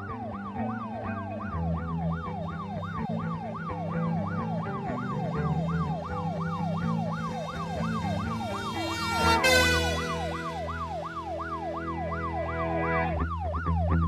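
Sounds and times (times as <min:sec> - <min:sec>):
siren yelping: 0:00.6 - 0:13.2.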